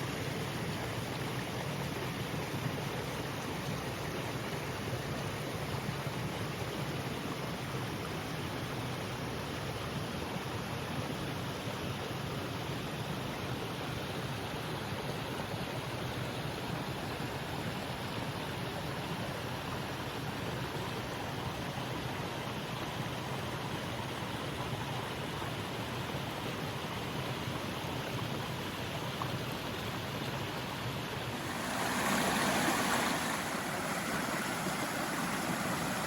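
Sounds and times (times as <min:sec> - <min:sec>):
stream of running water: 0:00.0 - 0:36.0.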